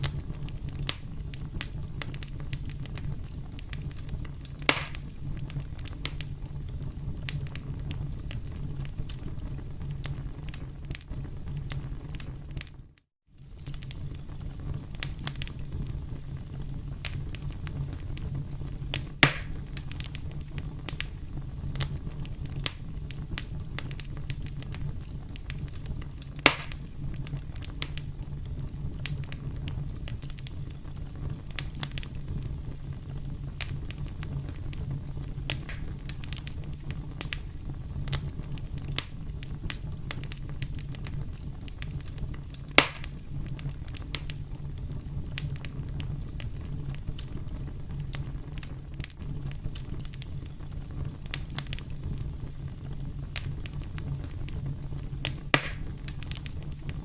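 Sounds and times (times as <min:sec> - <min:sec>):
campfire crackling: 0:00.0 - 0:57.0
loud fire pops: 0:00.0 - 0:57.0
low rumble of flames: 0:00.0 - 0:57.0
sharp snaps of burning wood: 0:00.0 - 0:57.0.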